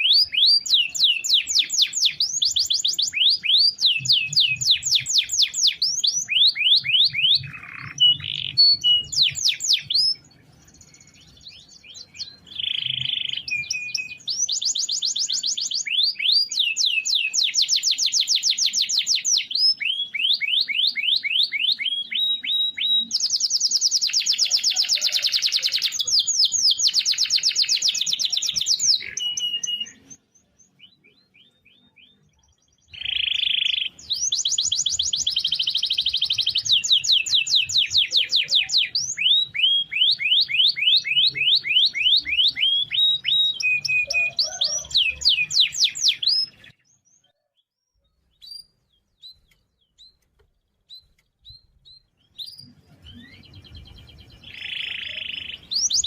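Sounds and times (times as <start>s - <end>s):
bird chirps: 0.0s - 56.0s
canary singing trills: 0.0s - 56.0s.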